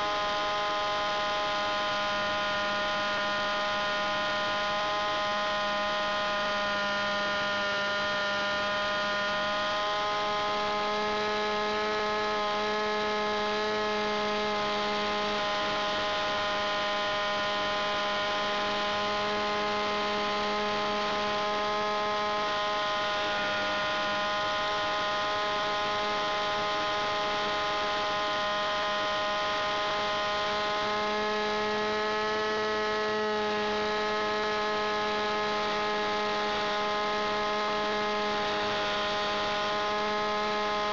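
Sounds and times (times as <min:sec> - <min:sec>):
model plane engine drone: 0:00.0 - 0:40.9.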